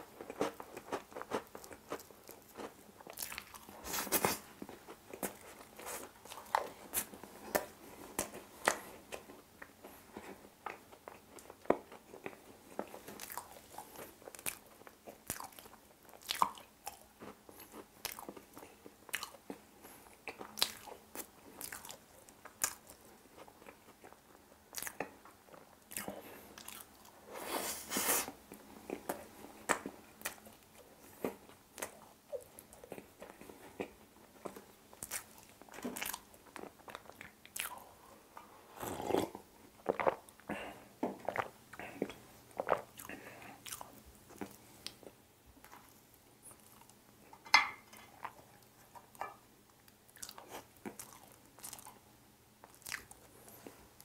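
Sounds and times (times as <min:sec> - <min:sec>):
chewing with mouth smacks: 0:00.2 - 0:27.2, 0:28.5 - 0:38.0, 0:38.8 - 0:47.0, 0:47.9 - 0:52.0, 0:52.6 - 0:53.8.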